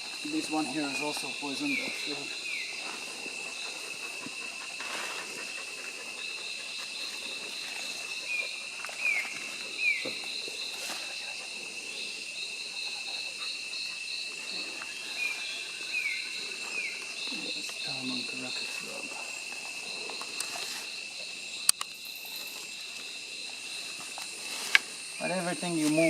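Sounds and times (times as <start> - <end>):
insects shrilling: 0.0 - 26.0.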